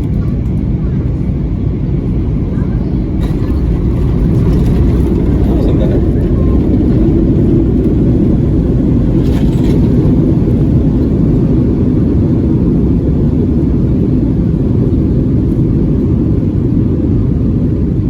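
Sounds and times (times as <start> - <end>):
jet engine rumble in cabin: 0.0 - 18.0.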